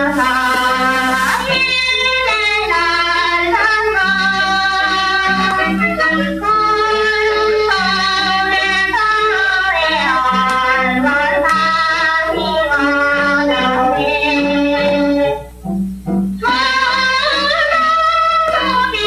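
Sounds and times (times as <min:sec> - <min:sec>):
woman singing slow song: 0:00.0 - 0:15.4, 0:16.4 - 0:19.0
instrumental accompaniment: 0:00.0 - 0:19.0.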